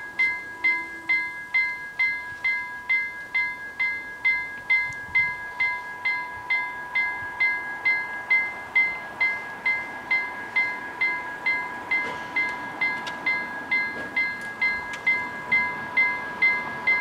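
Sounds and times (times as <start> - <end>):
level crossing bells ringing: 0.0 - 17.0.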